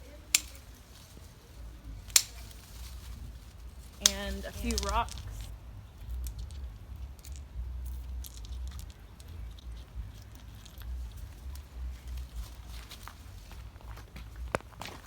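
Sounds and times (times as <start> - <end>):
low microphone rumble: 0.0 - 15.0
rocks clicking and crunching: 2.0 - 15.0.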